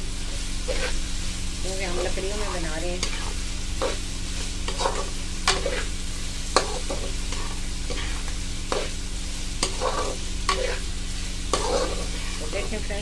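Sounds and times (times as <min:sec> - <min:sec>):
food sizzling in hot oil: 0:00.0 - 0:13.0
metal spatula scraping wok: 0:00.6 - 0:01.0, 0:01.7 - 0:13.0.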